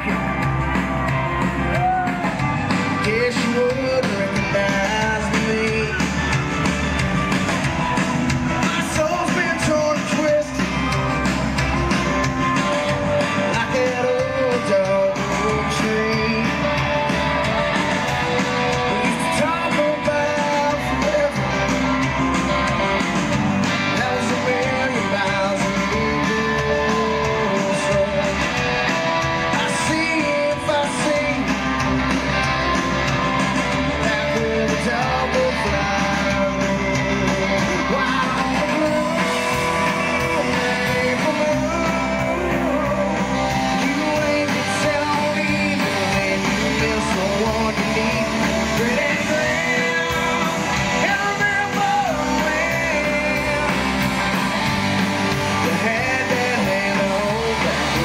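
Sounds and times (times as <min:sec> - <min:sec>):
person singing lead vocal: 0:00.0 - 0:07.0, 0:07.6 - 0:58.0
drums: 0:00.0 - 0:58.0
electric guitars: 0:00.0 - 0:58.0.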